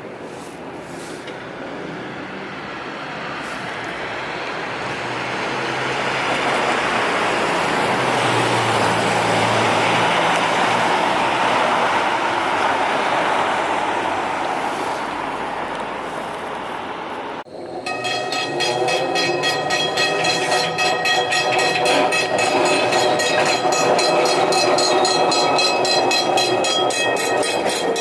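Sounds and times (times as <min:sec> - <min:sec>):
vehicle rolling past: 0:00.8 - 0:28.0.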